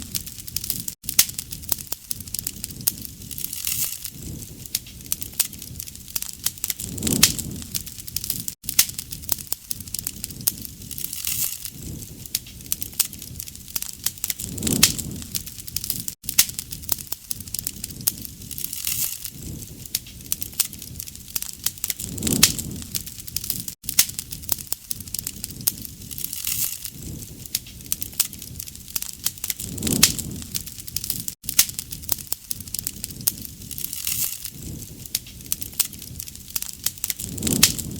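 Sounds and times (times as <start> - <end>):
campfire crackling and popping: 0.0 - 37.9
low rush of flame: 0.0 - 37.9.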